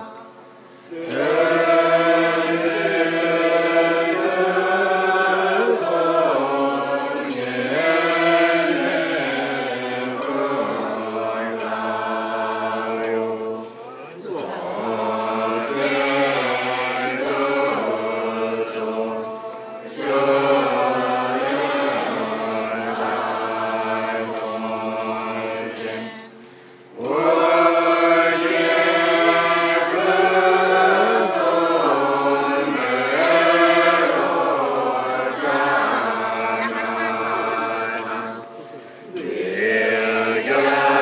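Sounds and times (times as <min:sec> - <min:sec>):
group chanting prayers: 0:00.0 - 0:41.0.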